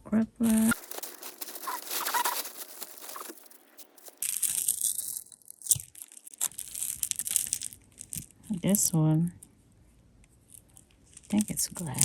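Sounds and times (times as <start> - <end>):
jewelry crinkling and clicking: 0.5 - 8.6, 10.2 - 12.0.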